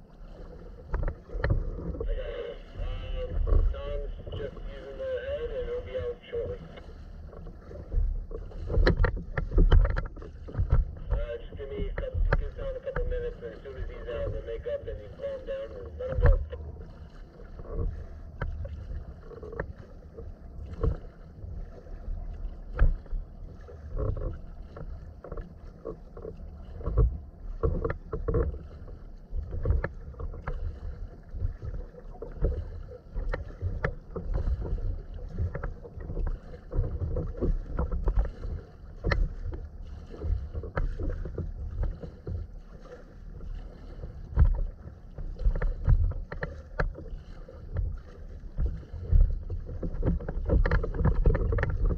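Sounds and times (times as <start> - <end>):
steady low rumble: 0.0 - 51.9
water splashing against kayak hull: 0.0 - 51.9.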